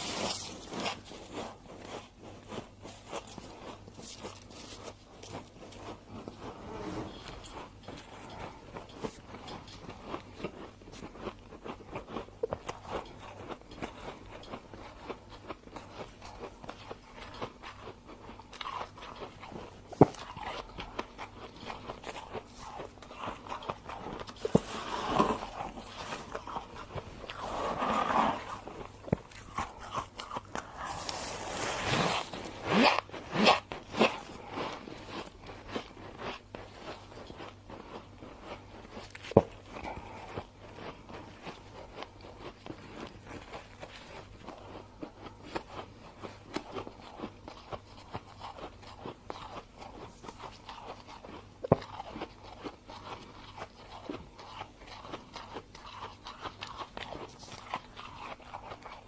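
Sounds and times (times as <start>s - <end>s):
frost being chewed: 0.0s - 59.0s.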